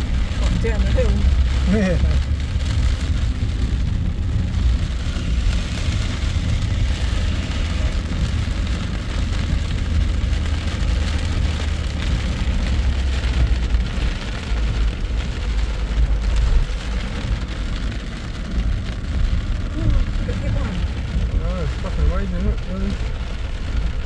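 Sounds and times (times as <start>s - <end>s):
car rumble on flooded road: 0.0s - 24.0s
heavy rain on a car: 0.0s - 24.0s.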